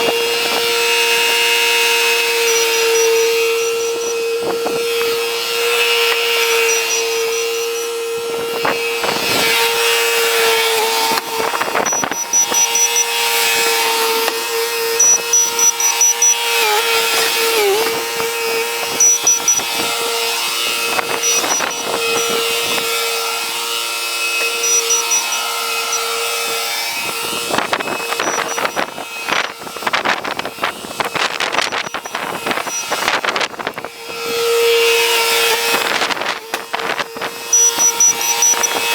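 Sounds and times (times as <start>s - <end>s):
skid-steer engine whine: 0.0s - 38.9s.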